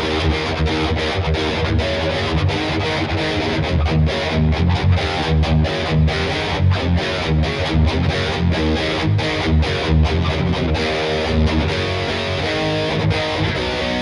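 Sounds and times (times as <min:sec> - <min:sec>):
distorted electric guitar riff: 0:00.0 - 0:14.0.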